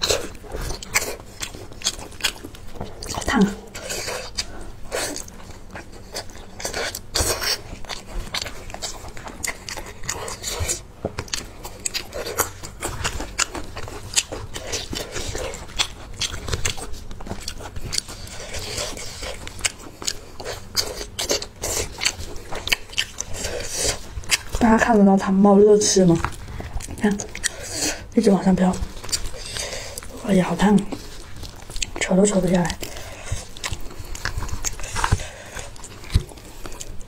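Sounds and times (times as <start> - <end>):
chewing and mouth smacking: 0.0 - 37.0.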